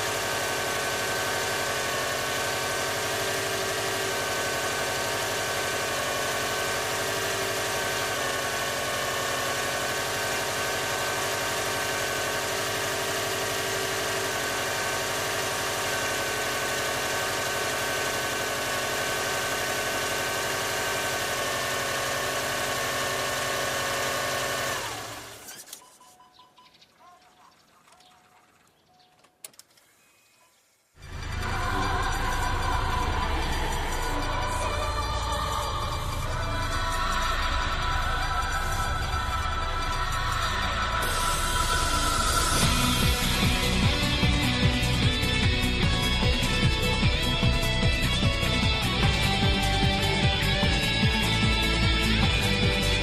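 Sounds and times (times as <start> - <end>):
car engine idling: 0.0 - 25.7, 31.0 - 53.0
engine whine: 0.0 - 26.6, 31.0 - 53.0.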